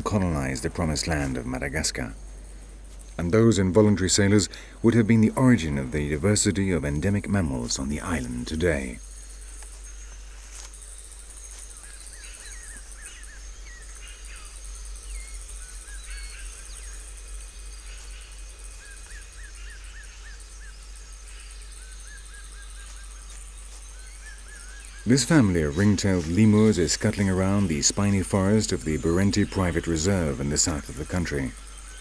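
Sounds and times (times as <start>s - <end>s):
low hum: 0.0s - 32.0s
steady hiss: 0.0s - 32.0s.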